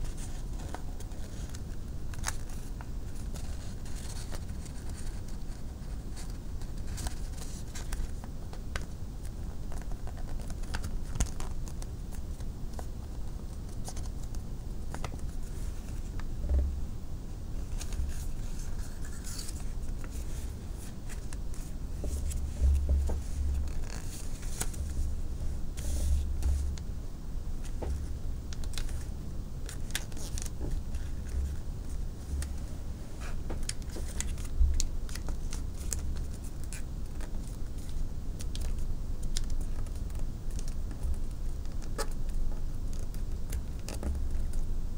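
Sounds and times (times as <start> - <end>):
paper being folded and creased: 0.0 - 16.2, 17.6 - 25.1, 25.7 - 26.8, 27.6 - 44.6.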